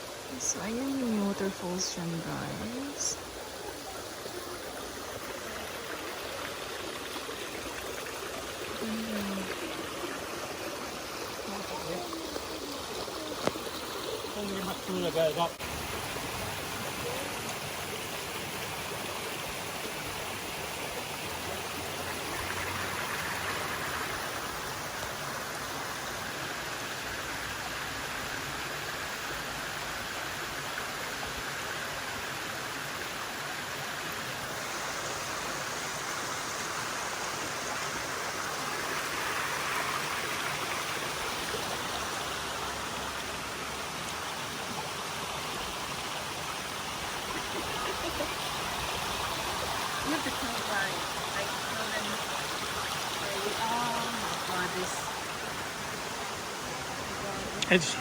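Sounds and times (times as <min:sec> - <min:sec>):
creek water rushing over rocks: 0:00.0 - 0:58.0.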